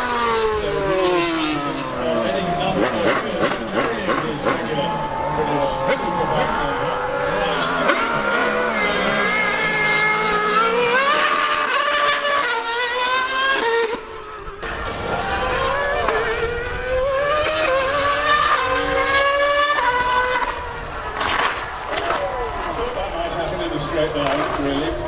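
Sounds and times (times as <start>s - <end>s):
racing car engine revving: 0.0s - 25.0s
superbike engine at speed: 0.0s - 25.0s.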